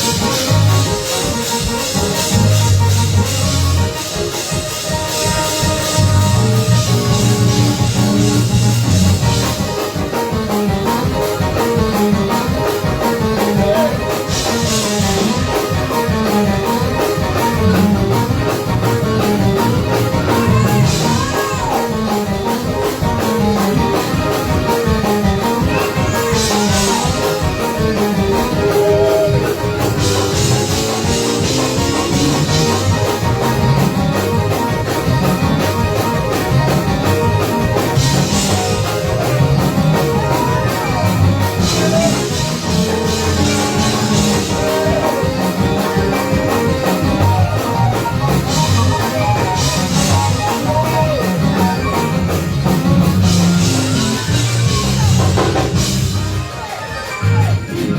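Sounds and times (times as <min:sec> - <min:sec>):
quick steady drum beat: 0:00.0 - 0:56.3
moving bass line: 0:00.0 - 0:56.5
live band playing fast music: 0:00.0 - 0:57.9.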